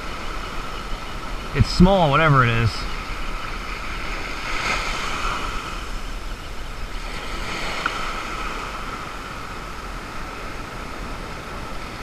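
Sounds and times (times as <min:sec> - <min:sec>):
surf washing up a beach: 0:00.0 - 0:12.0.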